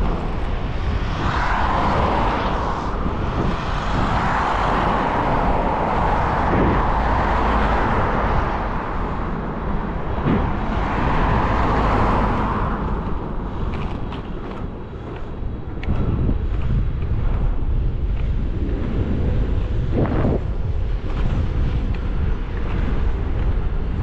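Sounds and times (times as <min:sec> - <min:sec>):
road traffic rushing: 0:00.0 - 0:24.0.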